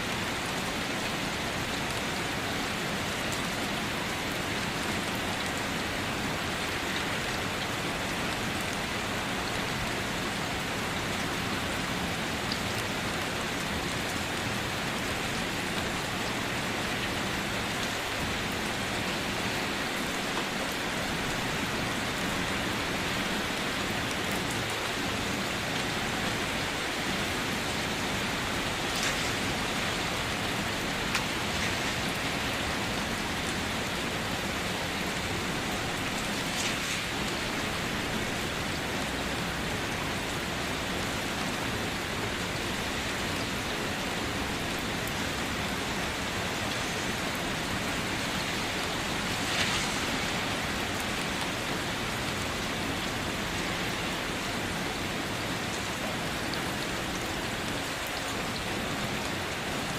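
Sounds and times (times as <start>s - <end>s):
rain falling on a car: 0.0s - 59.9s.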